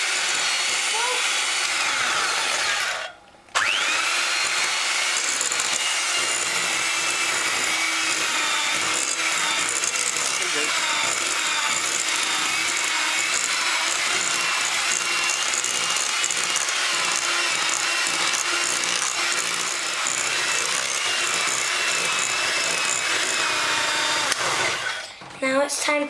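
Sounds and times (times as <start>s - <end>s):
electric hand whisk running: 0.0s - 25.0s.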